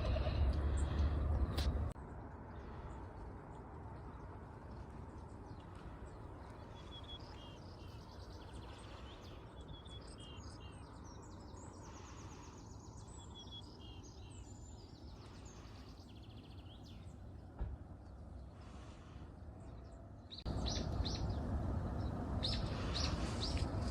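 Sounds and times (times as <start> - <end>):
small songbirds chirping and trilling: 0.0 - 23.9.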